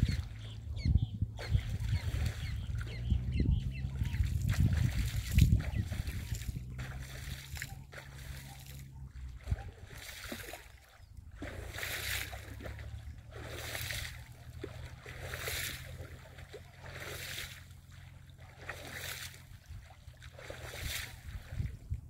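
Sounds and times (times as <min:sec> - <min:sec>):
steady low rumble: 0:00.0 - 0:22.0
water gurgling: 0:03.8 - 0:21.7
waves lapping at shore: 0:04.1 - 0:21.8.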